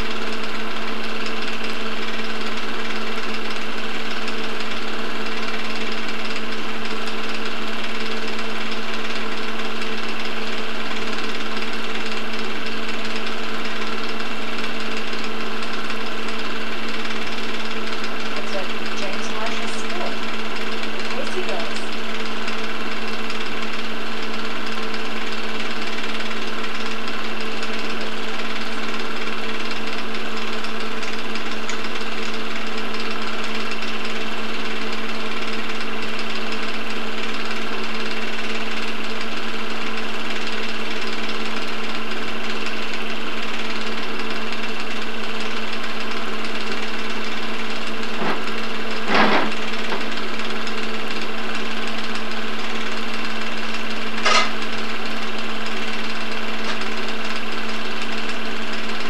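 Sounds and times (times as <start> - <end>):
film projector whirring: 0.0 - 59.0.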